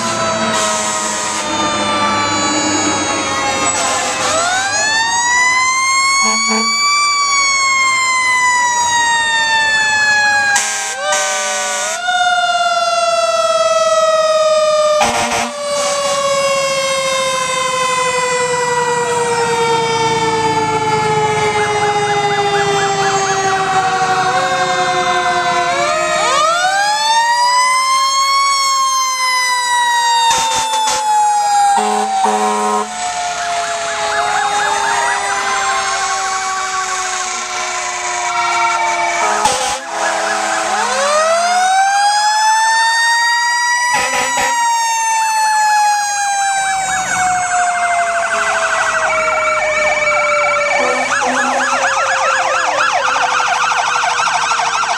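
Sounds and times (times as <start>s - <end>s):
fire engine siren wailing: 0.0s - 54.9s.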